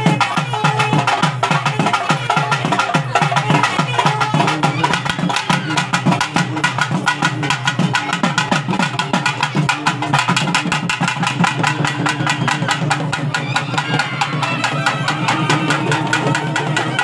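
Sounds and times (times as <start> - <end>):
drums beating fast: 0.0 - 17.0.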